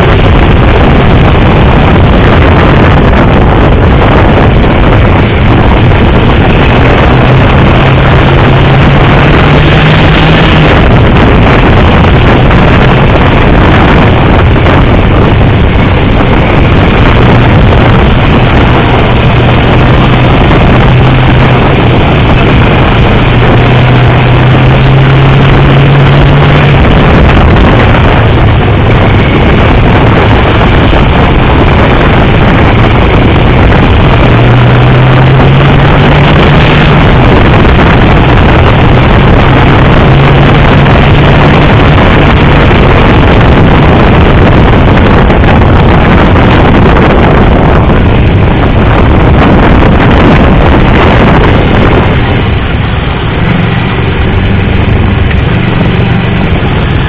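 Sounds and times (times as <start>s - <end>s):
motorcycle engine accelerating: 0.0s - 57.0s
wind rush over microphone: 0.0s - 57.0s.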